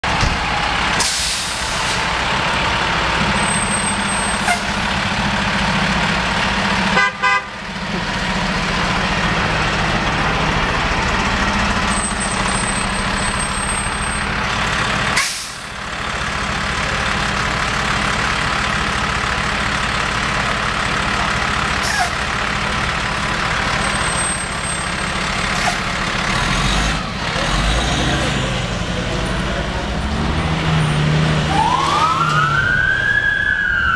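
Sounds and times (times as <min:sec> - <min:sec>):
fire engine driving: 0:00.0 - 0:33.9.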